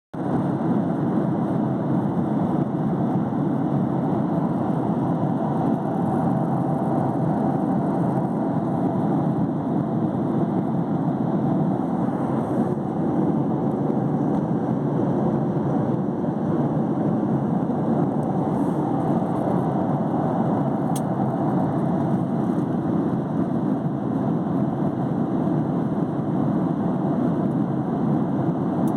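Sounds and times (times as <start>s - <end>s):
aeroplane engines rumbling: 0.2s - 28.9s.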